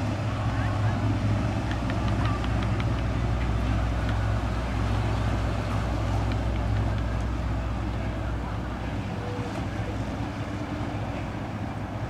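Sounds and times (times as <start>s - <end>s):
motorboat engines humming: 0.0s - 12.0s.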